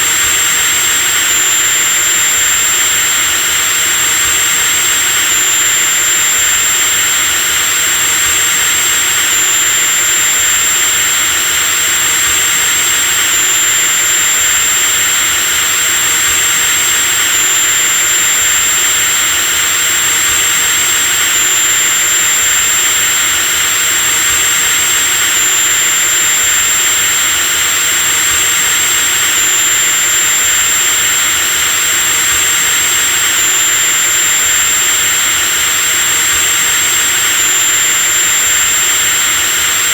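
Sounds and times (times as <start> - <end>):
electric drill whining: 0.0 - 39.9.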